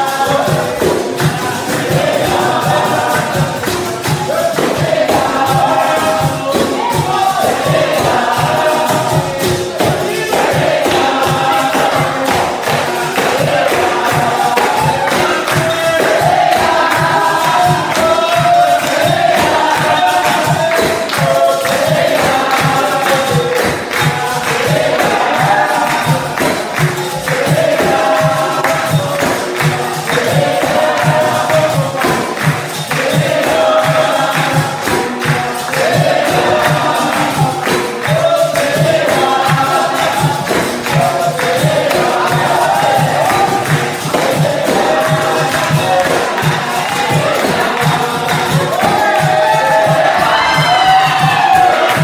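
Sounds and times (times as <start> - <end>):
group singing: 0.0 - 52.0
hand clapping: 0.0 - 52.0
hand drum: 0.0 - 52.0
tambourines: 0.0 - 52.0.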